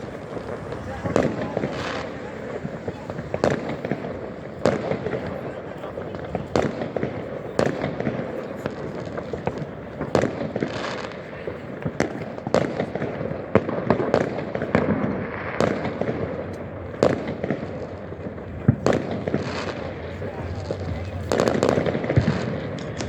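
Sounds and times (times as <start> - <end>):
distant fireworks crackling: 0.0 - 23.0
firecrackers bangs and pops: 0.0 - 23.0.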